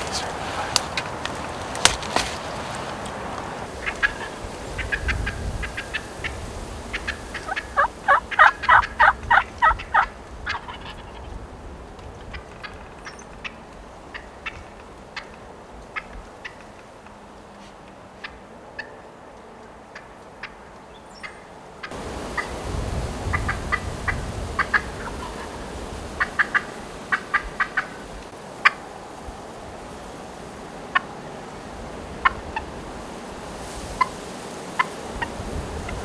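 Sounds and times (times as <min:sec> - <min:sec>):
wind rumbling on microphone: 0:00.0 - 0:17.0, 0:21.9 - 0:36.0
wild turkeys calling: 0:00.0 - 0:29.0, 0:30.6 - 0:32.8, 0:33.9 - 0:36.0.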